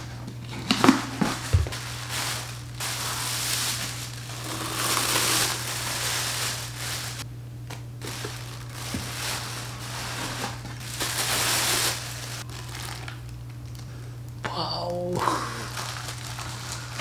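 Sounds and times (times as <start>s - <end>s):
steady low hum: 0.0s - 17.0s
plastic packaging crinkling: 0.5s - 13.9s, 15.3s - 17.0s.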